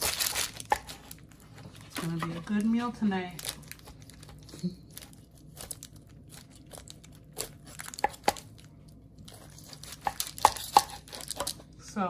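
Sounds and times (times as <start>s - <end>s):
crinkling: 0.0s - 11.7s.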